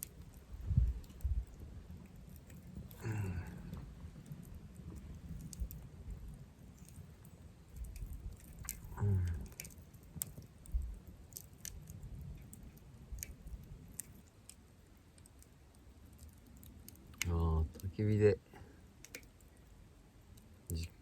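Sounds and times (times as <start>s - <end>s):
burning wood popping: 0.0s - 21.0s
campfire crackling: 0.0s - 21.0s.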